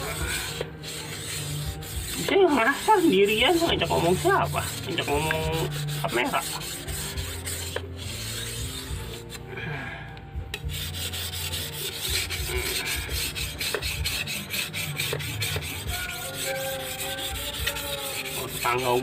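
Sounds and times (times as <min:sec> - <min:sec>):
blade scraping on whetstone: 0:00.0 - 0:09.5, 0:10.5 - 0:19.0.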